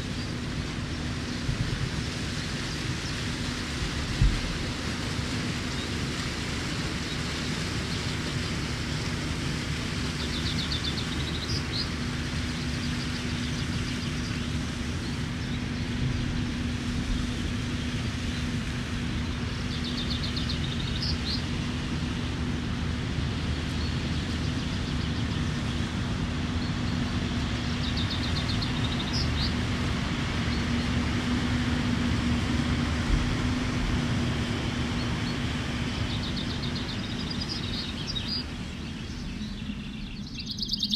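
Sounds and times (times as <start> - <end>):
chaffinch singing: 0.0 - 21.8, 23.2 - 31.4, 34.5 - 40.9
boat engine humming: 0.0 - 40.9.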